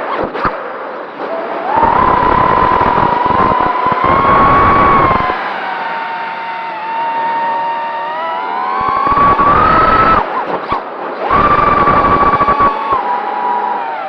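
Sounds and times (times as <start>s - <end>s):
quadcopter motors whining: 1.4s - 10.5s, 11.2s - 14.0s.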